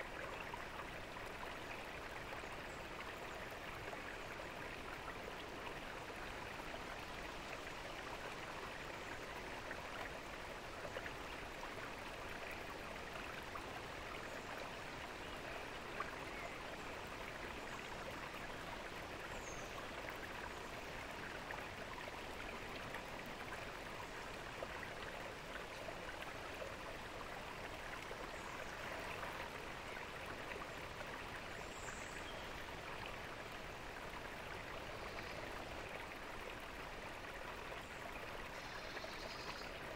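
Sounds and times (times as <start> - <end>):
fountain water splashing and trickling: 0.0 - 39.9.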